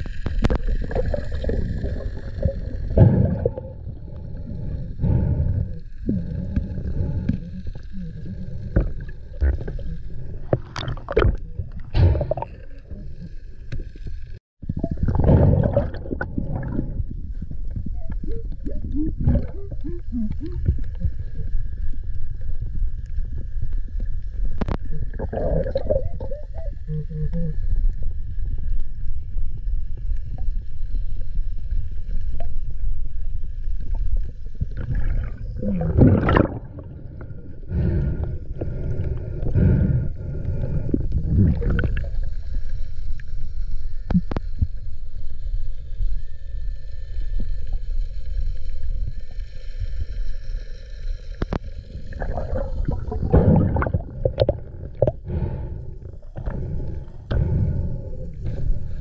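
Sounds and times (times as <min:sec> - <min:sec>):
underwater water rumble: 0:00.0 - 0:59.0.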